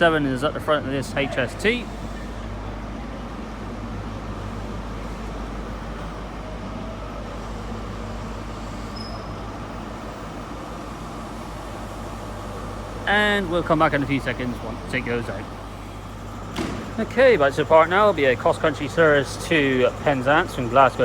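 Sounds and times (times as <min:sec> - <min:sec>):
diesel locomotive idling: 0:00.0 - 0:21.0.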